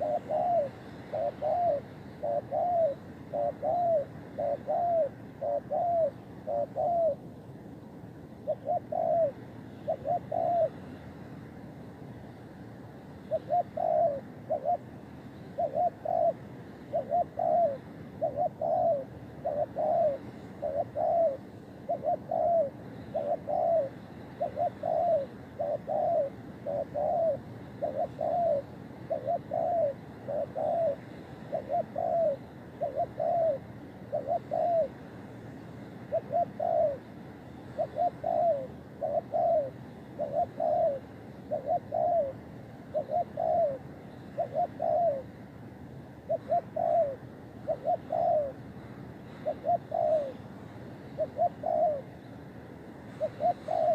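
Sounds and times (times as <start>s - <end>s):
dove cooing: 0.0s - 7.4s, 8.2s - 11.5s, 13.2s - 45.4s, 46.1s - 52.3s, 53.0s - 53.9s.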